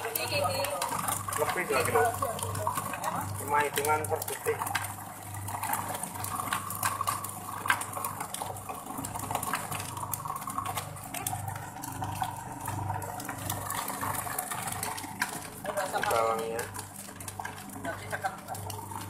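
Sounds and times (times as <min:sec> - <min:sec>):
food processor motor hum: 0:00.0 - 0:19.0.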